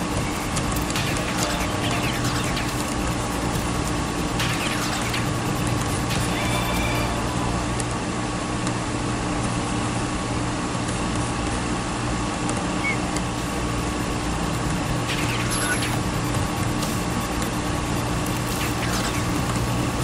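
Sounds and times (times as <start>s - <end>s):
mechanical hum and hiss: 0.0s - 20.0s.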